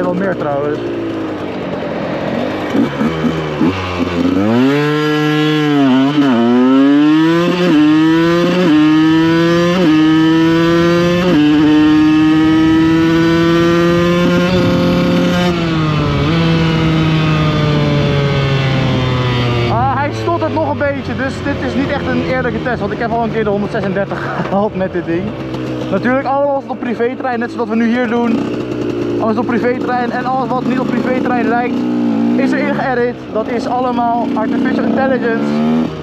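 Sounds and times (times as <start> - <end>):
two-stroke engine revving through gears: 0.0 - 36.0.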